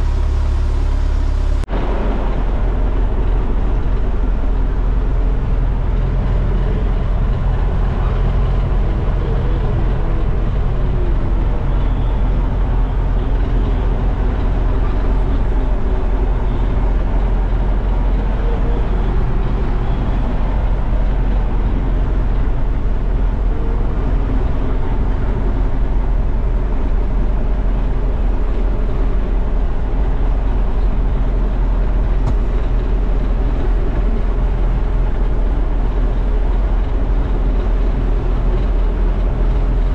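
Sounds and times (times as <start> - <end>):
heavy machinery engine droning: 0.0 - 39.9.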